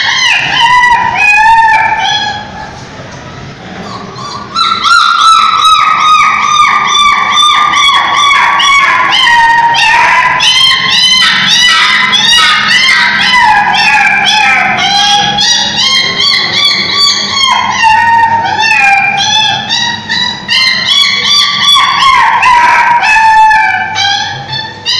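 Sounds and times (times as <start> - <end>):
puppy yelping: 0.0 - 2.8, 3.7 - 24.9.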